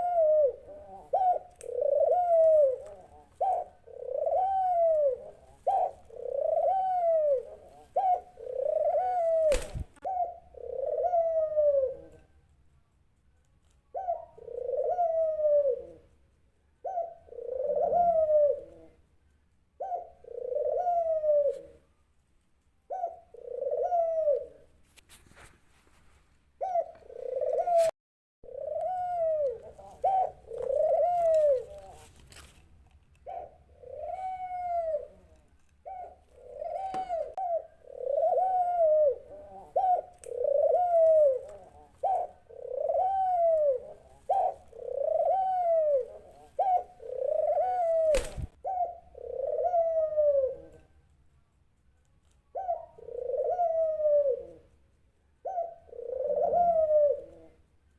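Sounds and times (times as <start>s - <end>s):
dove cooing: 0.0s - 12.4s, 13.9s - 16.2s, 16.8s - 19.1s, 19.8s - 21.9s, 22.8s - 24.7s, 26.6s - 32.2s, 33.2s - 51.0s, 52.5s - 54.8s, 55.4s - 57.7s.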